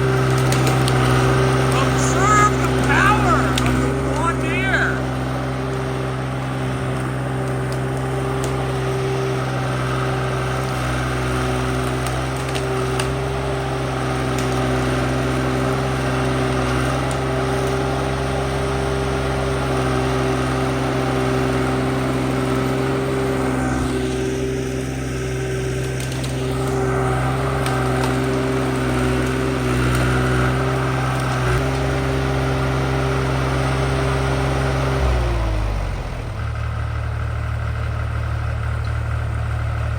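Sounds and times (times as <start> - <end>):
skid steer engine at high revs: 0.0 - 39.9.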